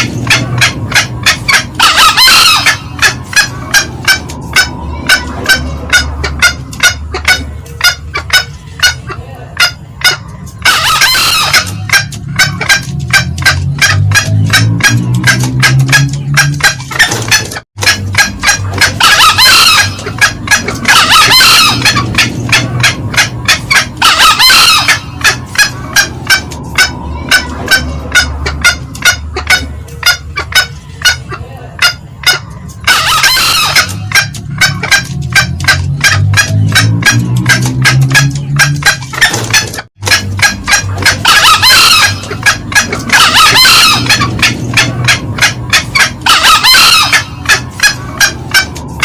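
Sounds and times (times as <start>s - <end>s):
junglefowl cackling: 0.0s - 49.0s
junglefowl crowing: 0.0s - 49.0s.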